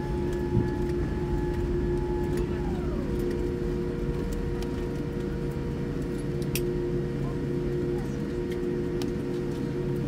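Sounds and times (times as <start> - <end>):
aircraft cabin rumble: 0.0 - 10.0
falling whine: 0.0 - 10.0.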